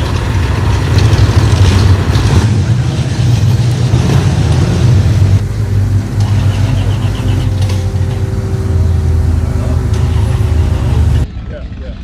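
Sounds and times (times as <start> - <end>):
car engine rumbling: 0.0 - 11.3.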